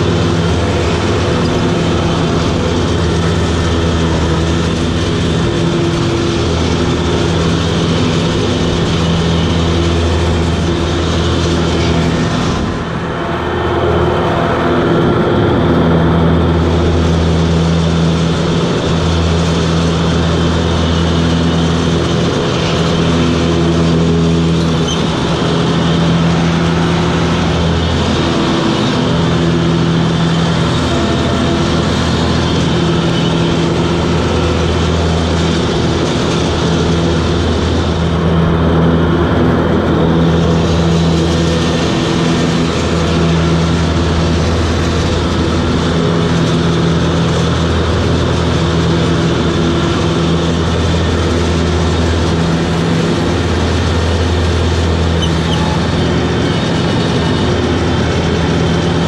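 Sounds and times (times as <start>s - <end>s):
ride-on mower engine running: 0.0s - 59.0s.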